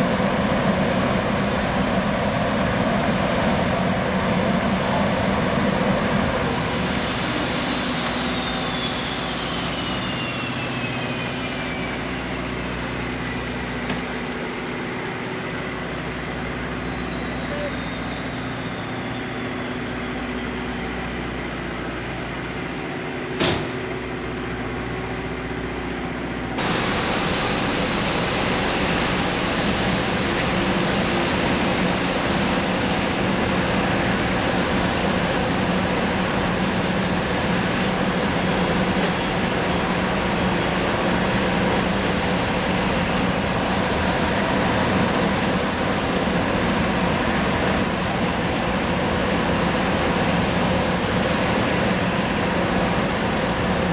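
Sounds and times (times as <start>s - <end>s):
gas turbines whining: 0.0s - 53.9s.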